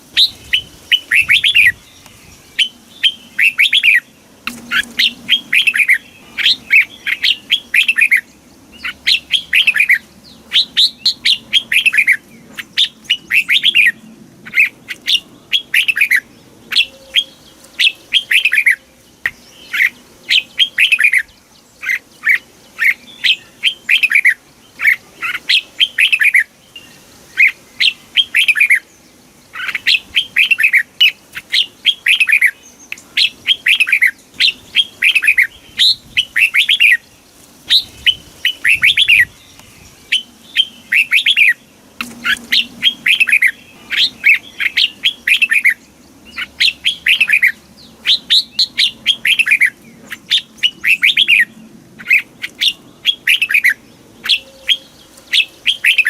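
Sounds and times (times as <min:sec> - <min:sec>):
bird singing whistled notes: 0:00.1 - 0:56.0.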